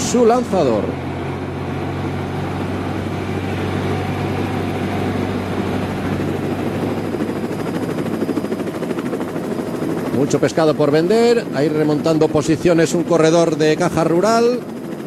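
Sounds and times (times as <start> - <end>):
fast even pulsing: 0.0 - 15.0.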